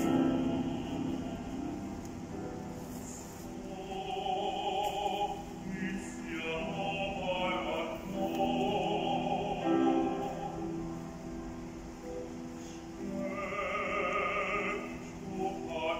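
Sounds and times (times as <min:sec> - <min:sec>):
male opera singer singing: 0:00.0 - 0:11.1, 0:12.8 - 0:15.9
grand piano accompaniment: 0:00.0 - 0:15.9.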